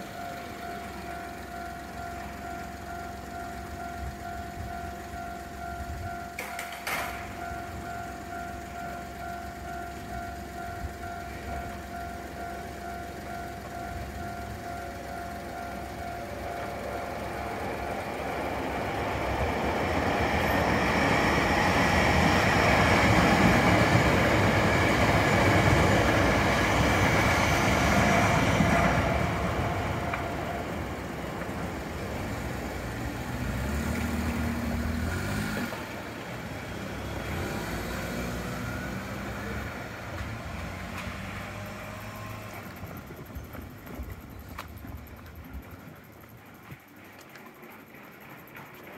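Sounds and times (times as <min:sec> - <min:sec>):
car engines pulling away: 0:00.0 - 0:46.0
electric train passing: 0:00.0 - 0:48.9
level-crossing warning bell: 0:00.0 - 0:48.9.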